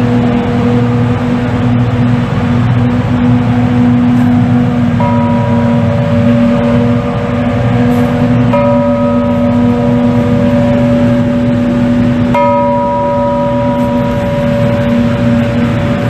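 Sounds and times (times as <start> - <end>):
bell tolling: 0.0 - 16.0.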